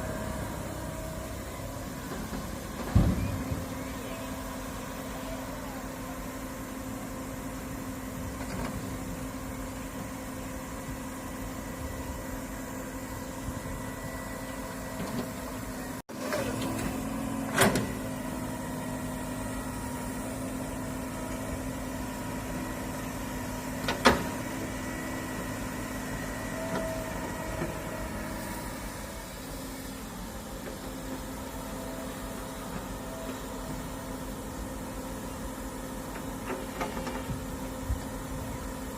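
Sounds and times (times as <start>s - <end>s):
excavator engine humming: 0.0s - 38.9s.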